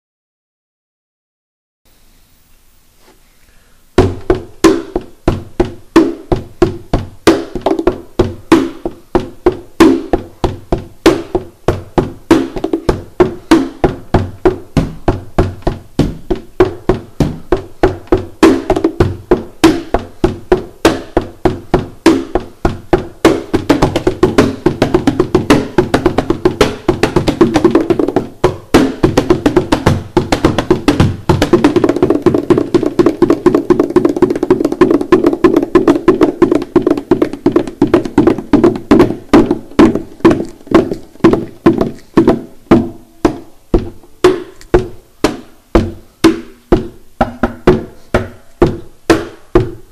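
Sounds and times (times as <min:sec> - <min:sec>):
hand percussion on guitar and box: 0:04.0 - 0:49.9.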